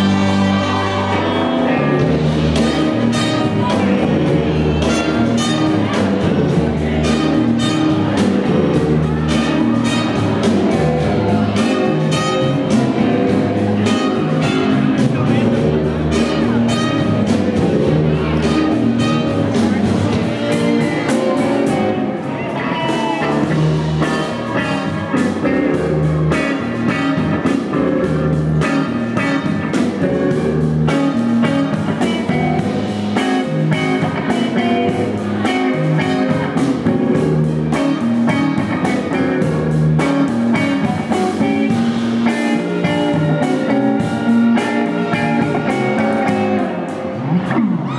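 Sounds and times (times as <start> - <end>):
rock music: 0.0 - 47.9.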